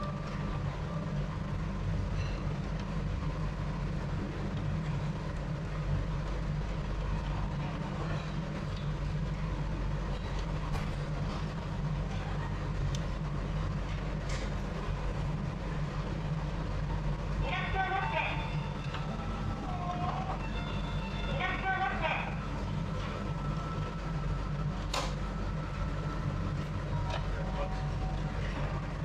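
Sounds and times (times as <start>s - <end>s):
train rumble inside carriage: 0.0s - 29.0s.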